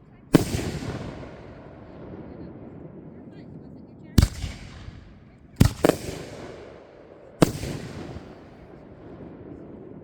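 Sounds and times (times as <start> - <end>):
fireworks bangs with rumbling echo: 0.0 - 10.0.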